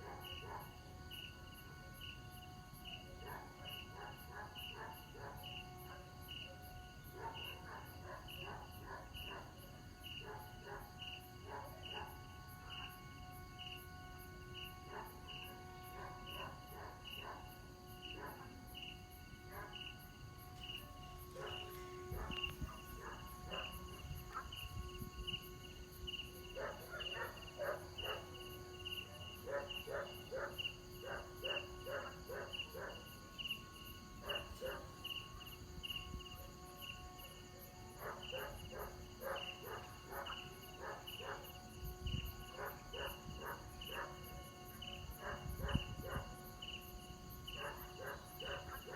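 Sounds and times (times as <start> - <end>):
insects chirping: 0.0 - 48.9.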